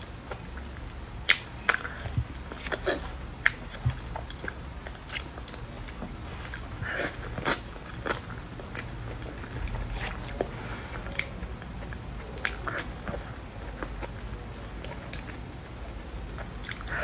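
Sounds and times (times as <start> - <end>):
person chewing wetly: 0.2 - 17.0.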